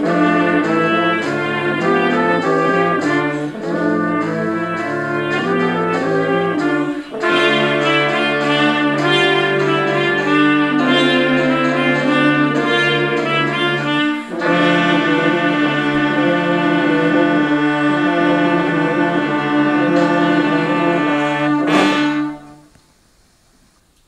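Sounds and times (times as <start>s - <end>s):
brass ensemble chords: 0.0s - 22.8s.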